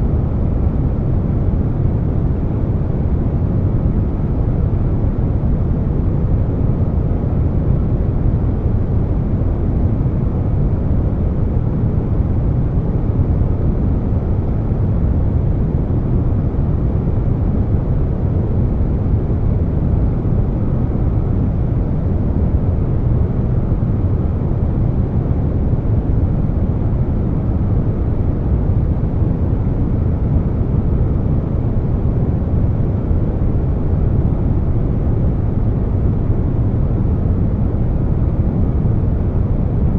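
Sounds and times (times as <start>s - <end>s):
air conditioner deep hiss: 0.0s - 39.9s.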